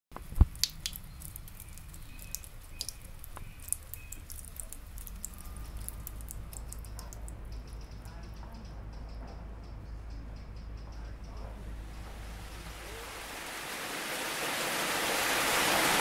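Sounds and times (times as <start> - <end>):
low steady rumble: 0.2 - 14.2.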